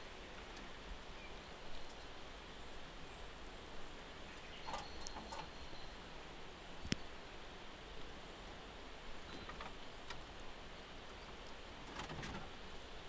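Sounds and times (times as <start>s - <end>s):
forest stream rushing: 0.0s - 13.0s.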